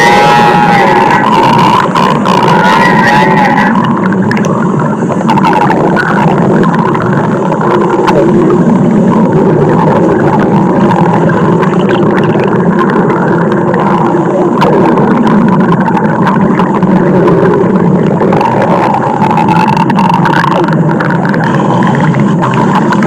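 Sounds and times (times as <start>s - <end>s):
stomach growling: 0.0s - 23.0s.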